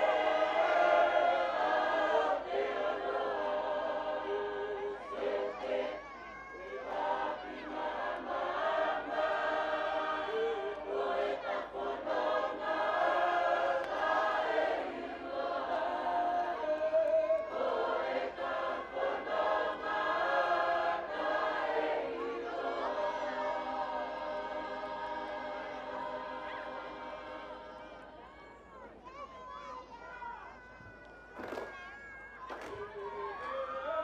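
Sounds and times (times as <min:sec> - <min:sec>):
group singing in harmony: 0:00.0 - 0:06.0, 0:06.6 - 0:28.2.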